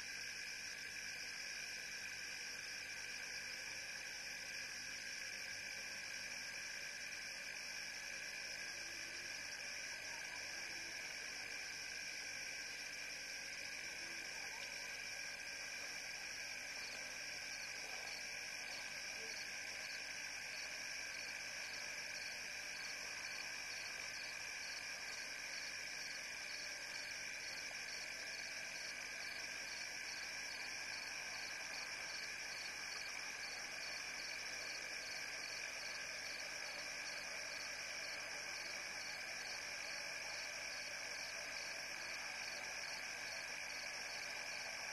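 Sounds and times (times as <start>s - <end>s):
frogs: 0.0s - 44.9s.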